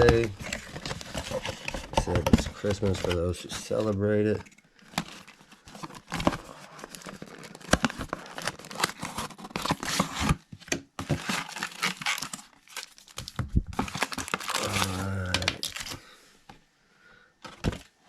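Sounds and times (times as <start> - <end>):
plastic packaging crinkling and tearing: 0.0 - 16.0.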